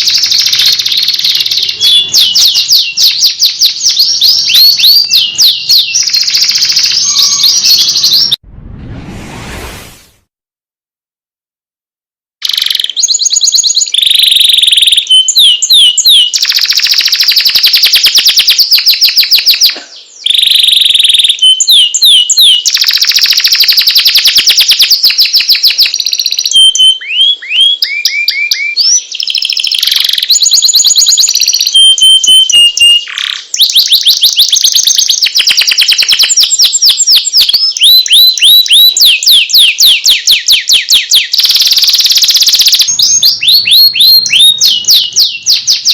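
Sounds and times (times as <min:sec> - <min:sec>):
canary singing trills: 0:00.0 - 0:08.4, 0:12.4 - 0:45.9.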